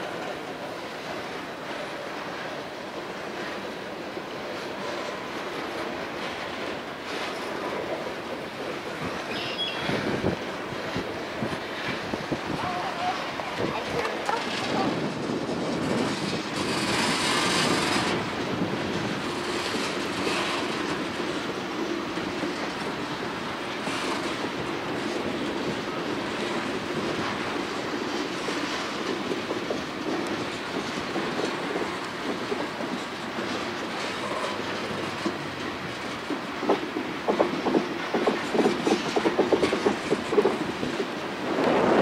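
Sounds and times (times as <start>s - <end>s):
train wheels clicking over rail joints: 0.0s - 42.0s.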